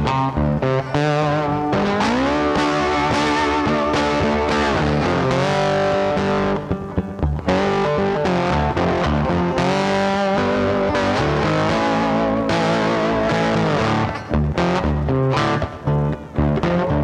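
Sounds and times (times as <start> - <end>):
guitar melody: 0.0 - 17.0.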